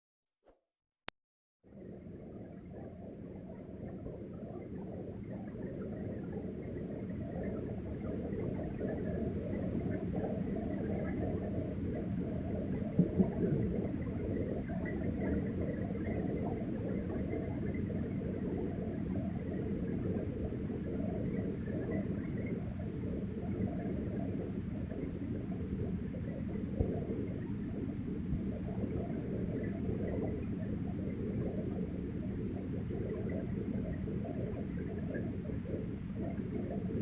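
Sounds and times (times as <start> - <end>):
low rumble of floodwater: 1.7 - 37.0.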